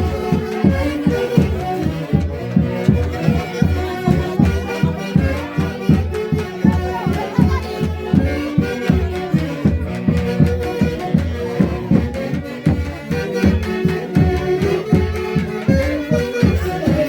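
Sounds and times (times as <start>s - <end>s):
sustained melody instruments: 0.0s - 17.0s.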